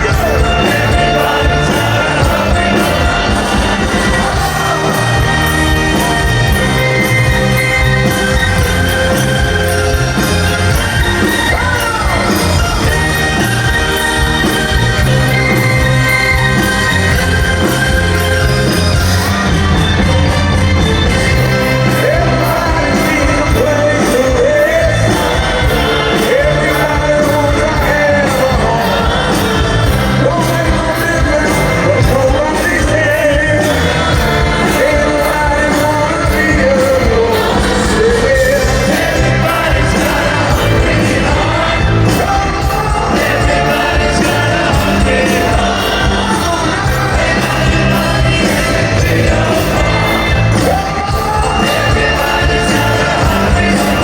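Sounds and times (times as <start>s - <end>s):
man singing: 0.0s - 20.4s, 21.1s - 54.0s
crowd shouting along: 0.0s - 54.0s
rock band playing loudly: 0.0s - 54.0s
steady drum beat: 0.0s - 54.0s.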